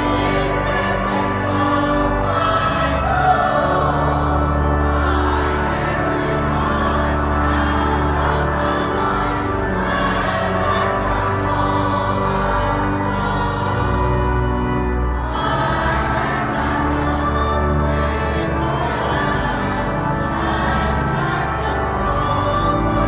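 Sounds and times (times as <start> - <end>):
choir singing: 0.0 - 23.0
pipe organ chords: 0.0 - 23.0.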